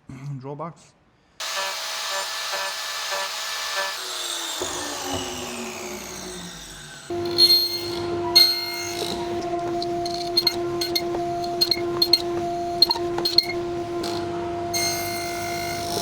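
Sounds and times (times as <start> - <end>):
power tool cutting wood: 1.4 - 16.0
tool spinning down whine: 1.4 - 16.0.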